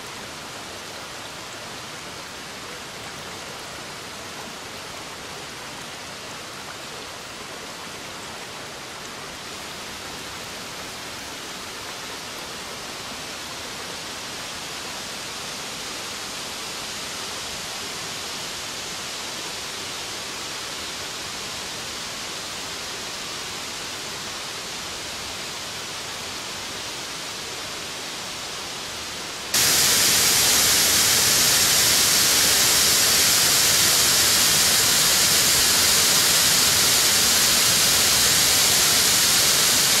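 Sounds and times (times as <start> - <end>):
rushing water of a torrent: 0.0 - 40.0.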